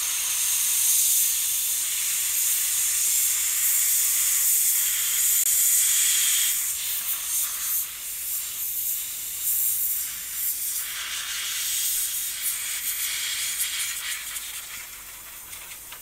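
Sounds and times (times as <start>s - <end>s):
compressed air hissing: 0.0s - 15.5s.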